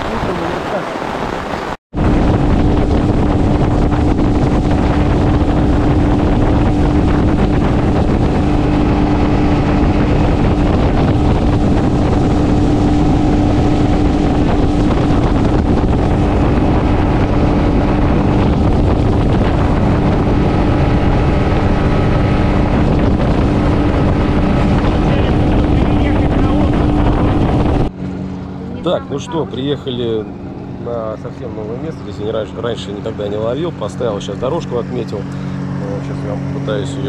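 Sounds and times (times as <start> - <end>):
wind blowing on microphone: 0.0 - 37.0
outboard motor running: 1.9 - 37.0.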